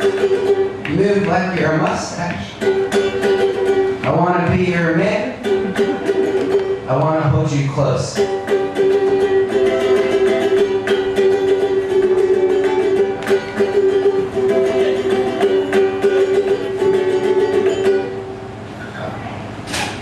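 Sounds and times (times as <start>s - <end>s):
ukulele strummed: 0.0s - 18.6s.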